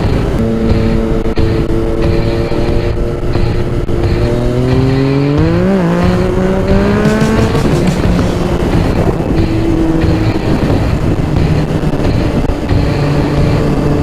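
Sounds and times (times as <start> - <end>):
motorcycle engine revving: 0.0 - 14.0
wind rush: 0.0 - 14.0.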